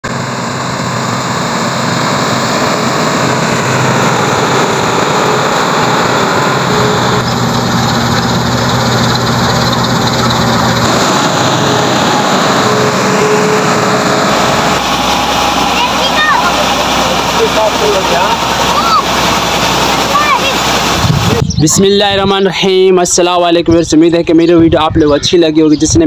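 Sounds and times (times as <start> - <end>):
combine harvester droning: 0.0 - 25.8.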